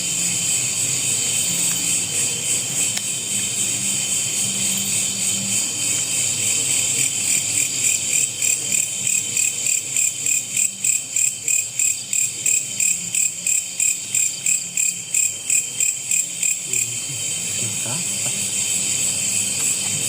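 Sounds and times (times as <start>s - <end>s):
insect chorus ringing: 0.0s - 20.0s.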